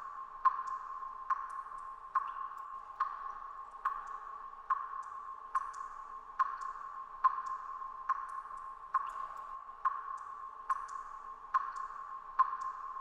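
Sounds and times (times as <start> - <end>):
water dripping in a cave: 0.0 - 13.0.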